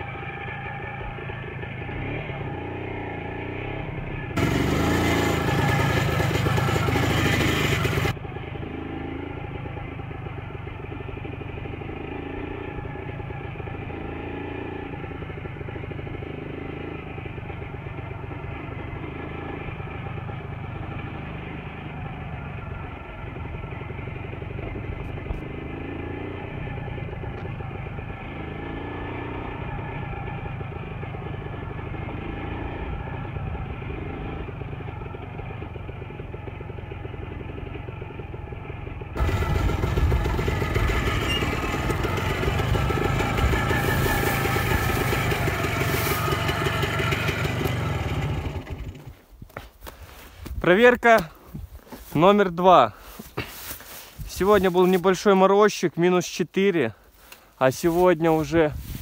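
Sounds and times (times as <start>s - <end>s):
two-stroke motorcycle engine: 0.0s - 55.6s.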